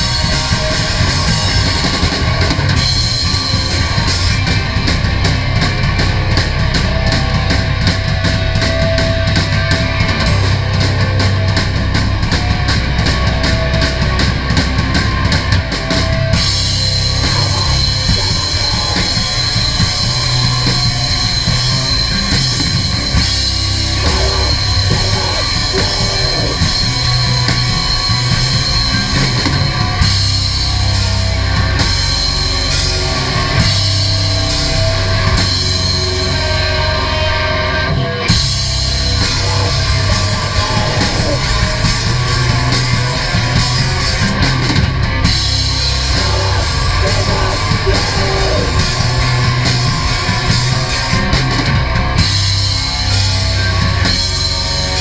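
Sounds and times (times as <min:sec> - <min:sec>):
bass guitar: 0:00.0 - 0:55.0
distorted electric guitar: 0:00.0 - 0:55.0
pounding drum kit: 0:00.0 - 0:55.0.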